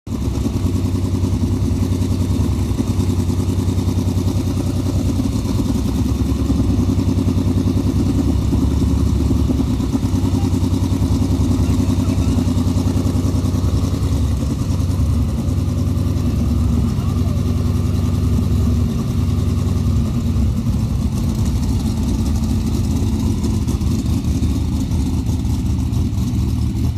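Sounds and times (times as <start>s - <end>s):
race car engine running at low revs: 0.1s - 26.9s.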